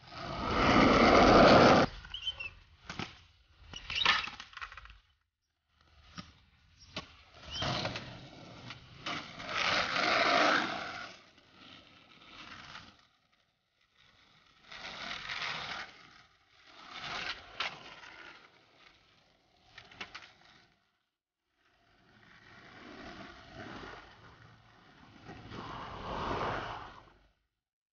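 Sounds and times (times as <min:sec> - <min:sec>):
skateboard wheels rolling on concrete: 0:00.0 - 0:27.5.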